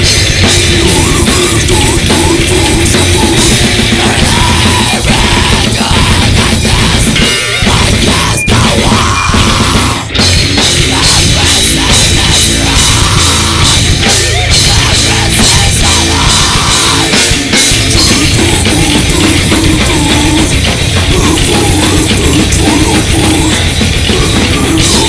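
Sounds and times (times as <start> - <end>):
distorted electric guitars: 0.0 - 25.0
drum kit: 0.0 - 25.0.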